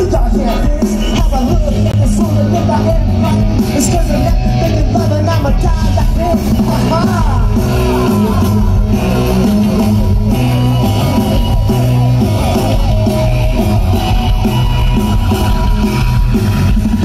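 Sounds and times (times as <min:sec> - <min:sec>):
bass guitar: 0:00.0 - 0:17.0
drums: 0:00.0 - 0:17.0
electric guitar lead: 0:00.0 - 0:17.0.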